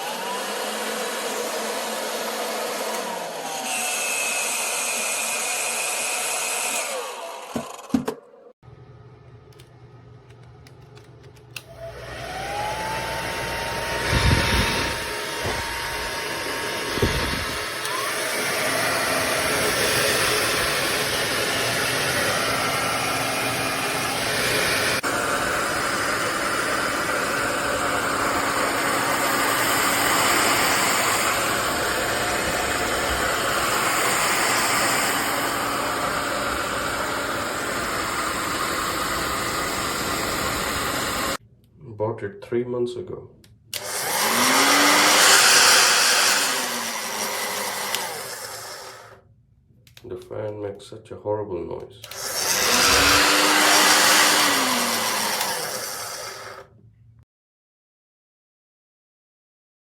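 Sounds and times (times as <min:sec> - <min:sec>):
hair dryer motor whine: 0:00.0 - 0:08.2, 0:11.6 - 0:41.4, 0:43.7 - 0:49.2, 0:52.0 - 0:56.8.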